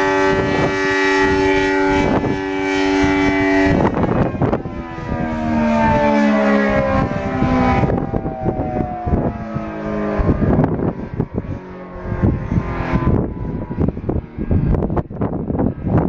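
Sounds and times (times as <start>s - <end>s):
warning siren winding down: 0.0s - 16.0s
wind buffeting microphone: 0.0s - 16.0s.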